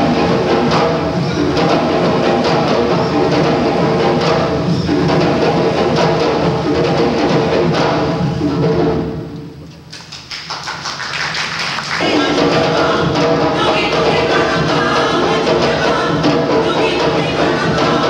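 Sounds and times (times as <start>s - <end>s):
live drums and percussion: 0.0s - 18.0s.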